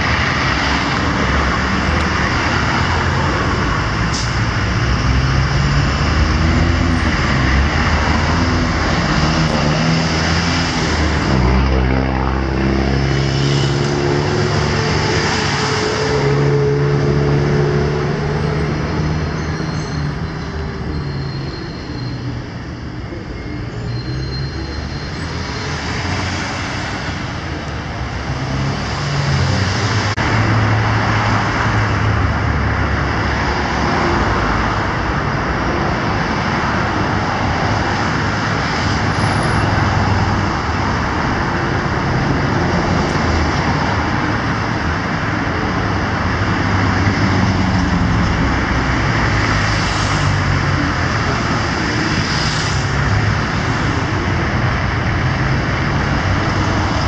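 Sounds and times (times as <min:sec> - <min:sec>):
cars motorcycles and buses passing: 0:00.0 - 0:57.0.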